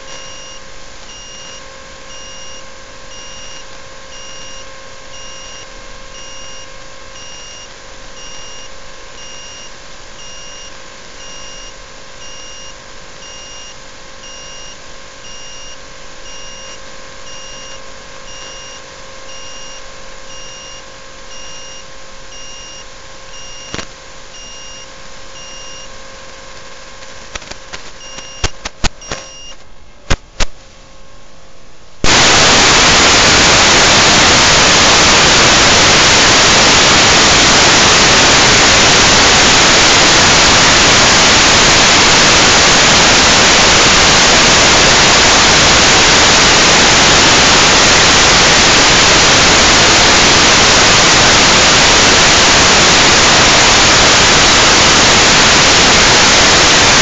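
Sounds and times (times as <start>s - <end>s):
loud static hiss: 0.0s - 57.0s.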